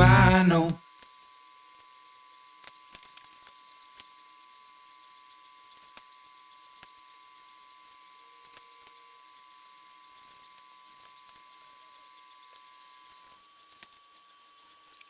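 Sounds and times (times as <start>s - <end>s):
small clicks and ticks: 2.6s - 15.0s.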